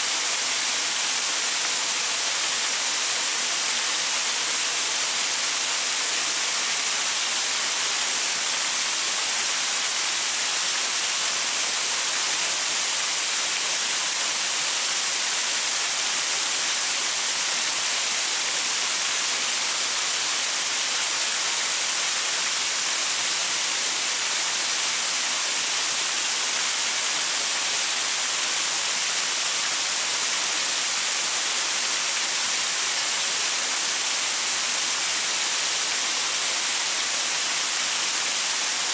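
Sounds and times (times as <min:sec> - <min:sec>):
waterfall splashing over rocks: 0:00.0 - 0:38.9.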